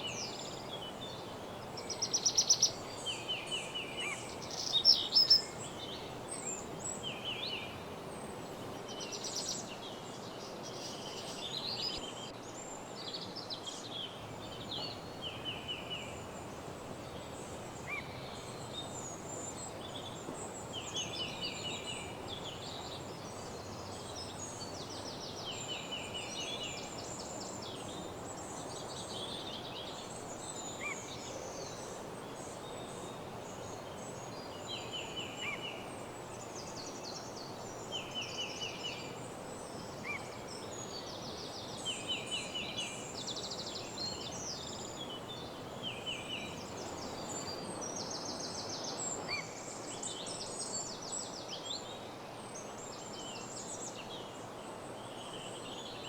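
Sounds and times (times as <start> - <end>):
songbirds chirping and trilling: 0.0 - 56.0
steady background hiss: 0.0 - 56.0.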